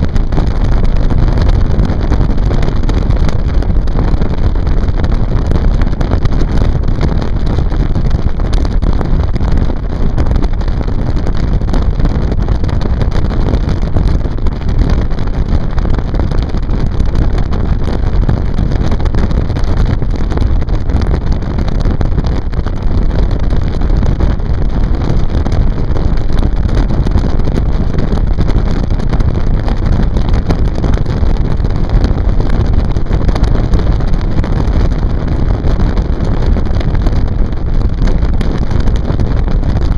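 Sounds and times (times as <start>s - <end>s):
motorboat rumbling: 0.0s - 39.9s
wind buffeting microphone: 0.0s - 39.9s.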